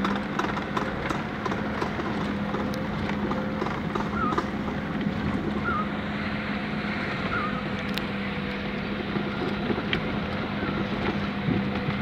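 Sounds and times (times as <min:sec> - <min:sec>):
car engine hum: 0:00.0 - 0:12.0
road and wind noise: 0:00.0 - 0:12.0.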